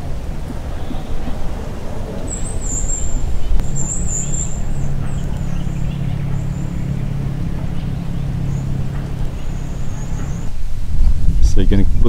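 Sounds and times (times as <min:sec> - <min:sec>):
vehicle engine humming: 0:00.0 - 0:11.7.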